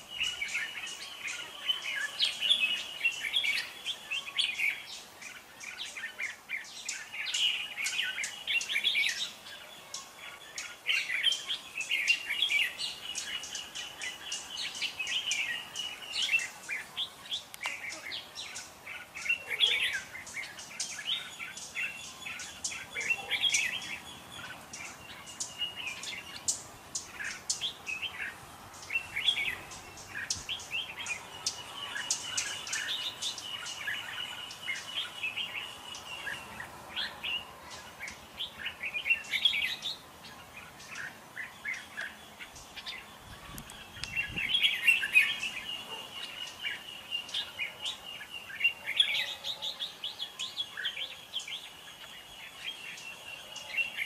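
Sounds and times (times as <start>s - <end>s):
bulbuls chirping and warbling: 0.0s - 54.0s.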